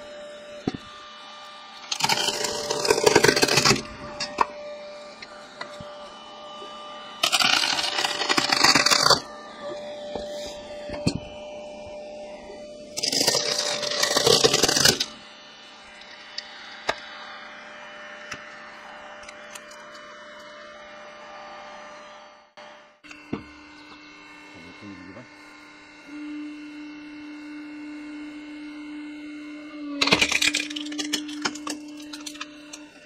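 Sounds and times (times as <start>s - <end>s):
steady machine noise: 0.0s - 33.0s.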